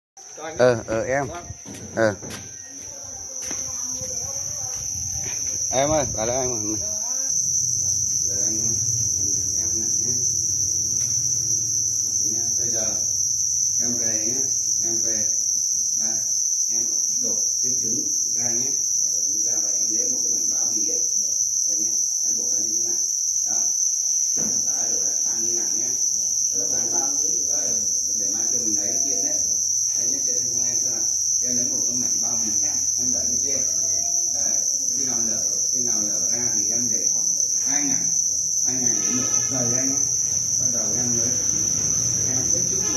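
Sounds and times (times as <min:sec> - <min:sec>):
crickets chirping: 0:00.2 - 0:42.9.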